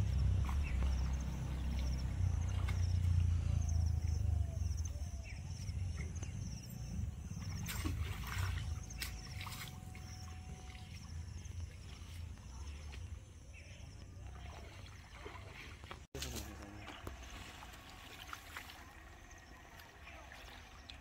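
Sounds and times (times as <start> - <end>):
water splashing and dripping: 0.0 - 3.4, 7.2 - 21.0.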